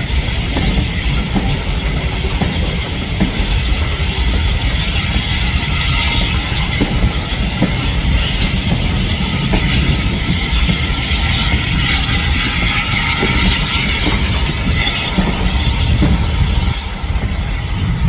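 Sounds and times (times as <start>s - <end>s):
steam hiss: 0.0s - 18.0s
train wheels rumbling on rails: 0.0s - 18.0s.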